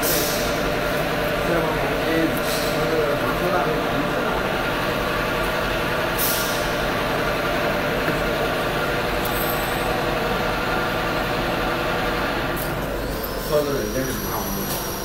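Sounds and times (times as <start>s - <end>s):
water dispenser hissing rumble: 0.0s - 15.0s.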